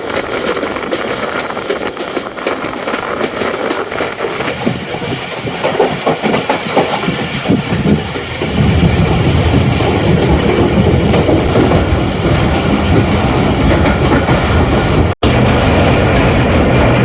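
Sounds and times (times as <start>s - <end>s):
train rumble: 0.0s - 17.0s
train wheels clicking over rail joints: 0.0s - 17.0s.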